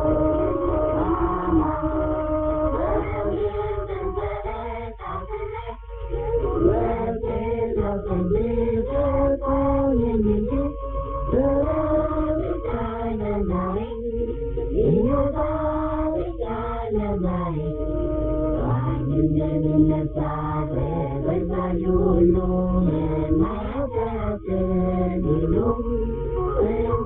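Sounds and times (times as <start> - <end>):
chant-like singing: 0.0 - 27.0.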